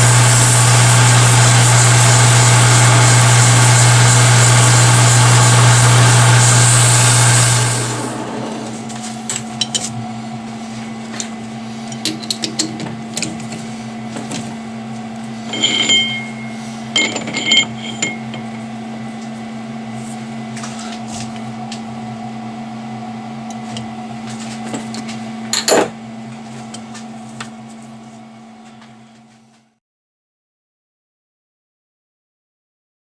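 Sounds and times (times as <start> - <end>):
metal lathe motor hum: 0.0 - 28.6.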